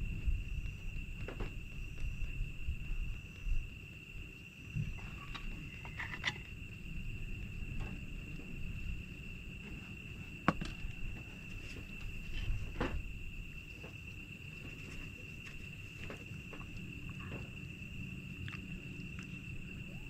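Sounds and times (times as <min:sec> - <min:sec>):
crickets trilling: 0:00.0 - 0:20.0
low outdoor rumble: 0:00.0 - 0:20.0.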